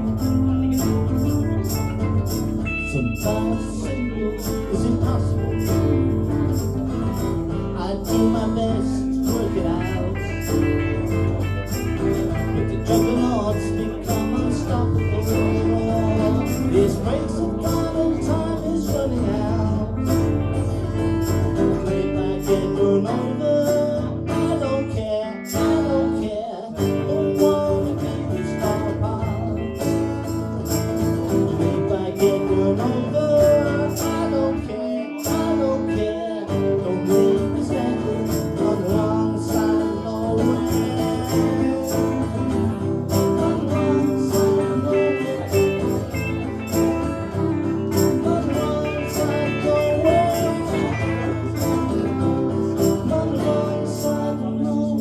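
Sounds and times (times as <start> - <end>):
lead guitar lines: 0.0 - 55.0
man singing: 0.0 - 55.0
strummed acoustic guitar: 0.0 - 55.0.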